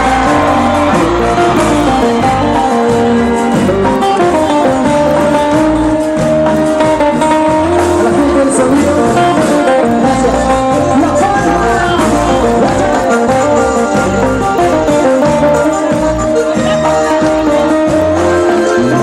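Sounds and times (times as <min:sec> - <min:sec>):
live band playing cumbia: 0:00.0 - 0:19.0.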